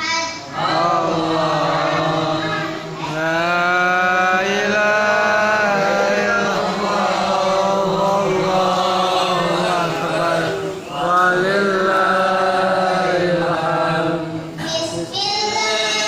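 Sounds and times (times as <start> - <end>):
person chanting recitation: 0.4 - 16.0.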